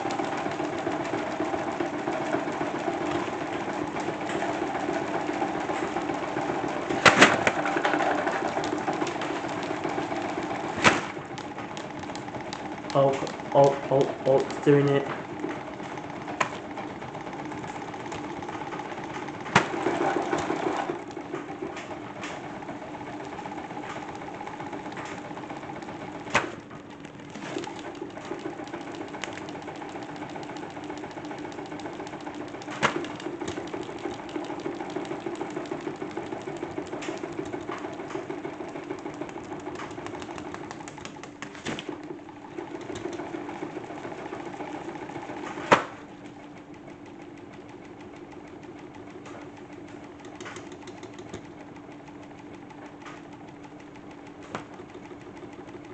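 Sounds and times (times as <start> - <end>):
salad spinner hum and rattle: 0.0 - 55.9.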